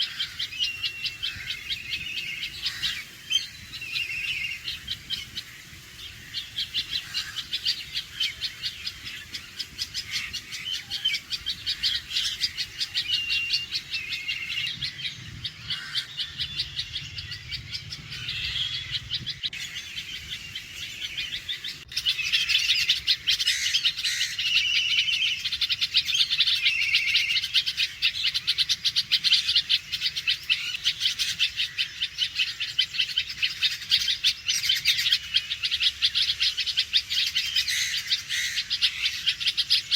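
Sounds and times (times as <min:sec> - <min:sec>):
bird alarm calls: 0:00.0 - 0:39.9.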